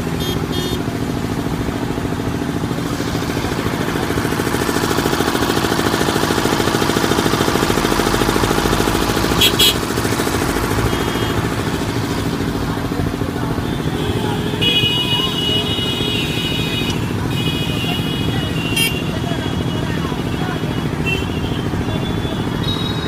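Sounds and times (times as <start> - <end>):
engine chugging: 0.0 - 23.0
traffic: 0.0 - 23.0.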